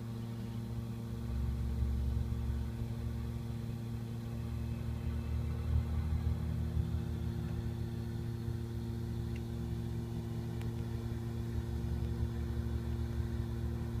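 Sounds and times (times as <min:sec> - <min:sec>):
low mechanical hum and rumble: 0:00.0 - 0:14.0.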